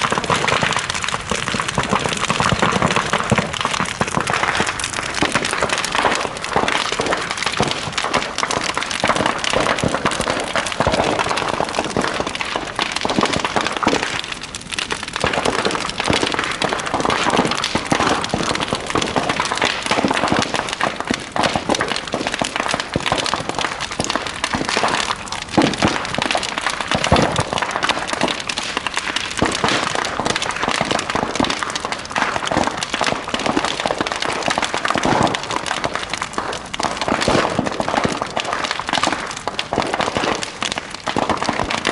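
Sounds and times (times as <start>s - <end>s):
bonfire crackling and popping: 0.0s - 41.9s.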